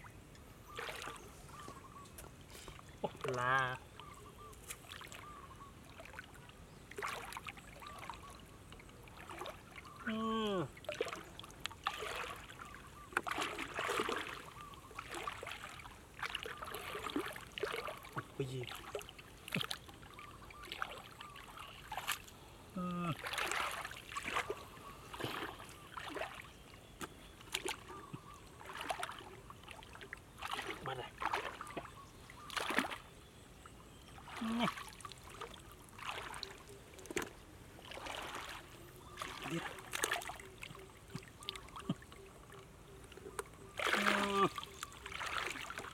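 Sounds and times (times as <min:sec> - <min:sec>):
muddy water splashing and sloshing: 0:00.6 - 0:45.9.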